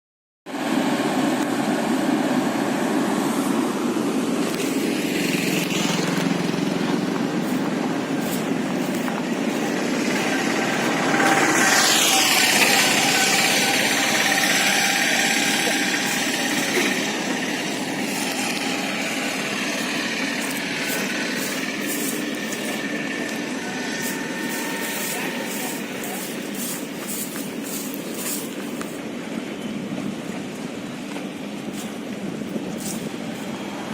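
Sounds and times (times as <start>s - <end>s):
drilling machine engine hum: 0.5s - 33.9s
high whine dropping in pitch: 0.6s - 29.1s.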